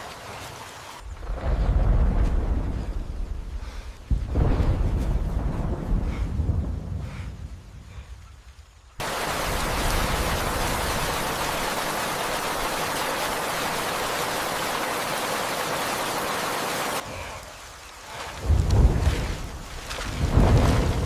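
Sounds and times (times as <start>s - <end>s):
heavy rain hiss: 1.7s - 21.0s.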